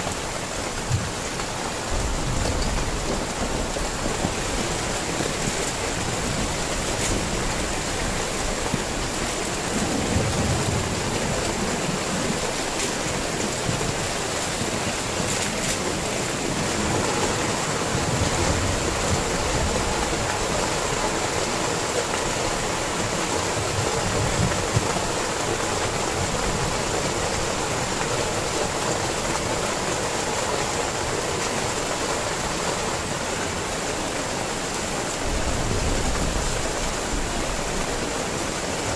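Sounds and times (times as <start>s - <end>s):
heavy rain: 0.0s - 38.9s
running water: 0.0s - 38.9s.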